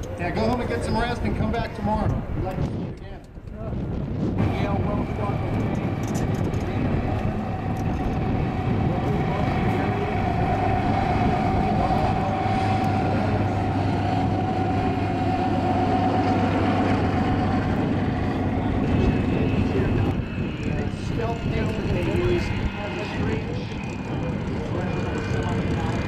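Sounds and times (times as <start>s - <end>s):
propeller aircraft engines droning: 0.0s - 26.0s.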